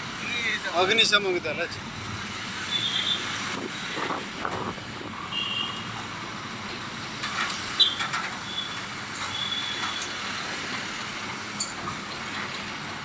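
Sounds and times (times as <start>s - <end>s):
street and vehicle noise: 0.0s - 13.0s.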